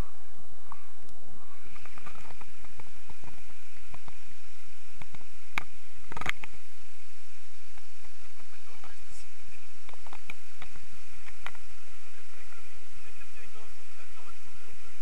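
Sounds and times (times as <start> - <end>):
muffled underwater waterfall rush: 0.0 - 15.0.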